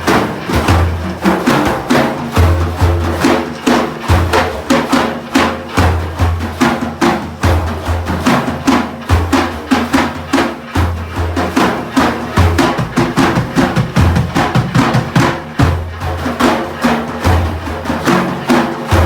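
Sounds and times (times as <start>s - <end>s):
frame drums fast rhythm: 0.0s - 19.0s.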